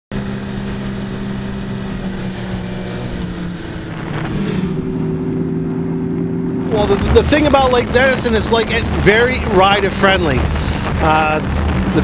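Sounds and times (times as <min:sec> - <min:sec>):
snowmobile engines running: 0:00.1 - 0:12.0.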